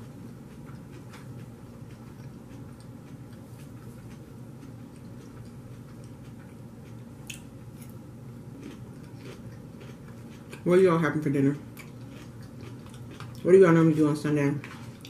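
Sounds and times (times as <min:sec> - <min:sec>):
crunchy lettuce chewing: 0:00.0 - 0:15.0
steady low hum: 0:00.0 - 0:15.0.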